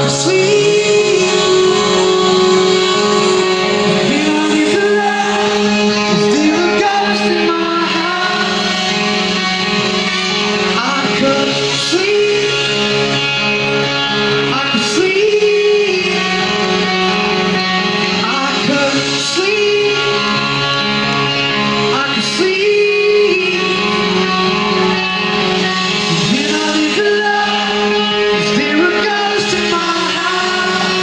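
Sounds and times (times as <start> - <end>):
electric guitars: 0.0 - 31.0
high male lead vocal singing: 0.0 - 31.0.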